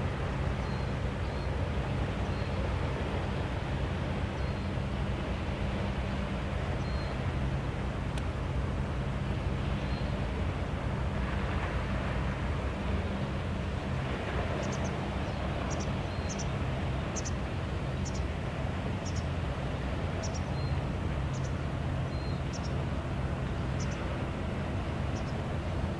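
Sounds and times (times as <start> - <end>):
distant boat engine drone: 0.0 - 25.9.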